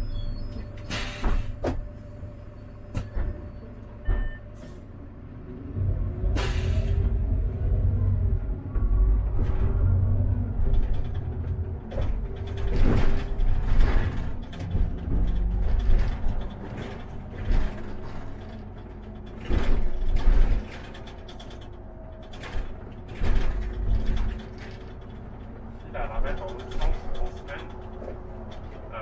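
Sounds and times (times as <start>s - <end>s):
diesel bus engine rumbling: 0.0s - 29.0s.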